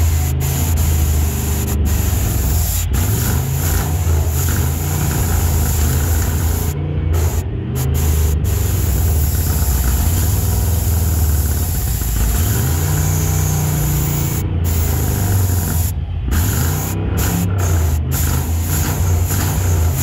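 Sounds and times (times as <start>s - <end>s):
pickup engine revving: 0.0s - 20.0s.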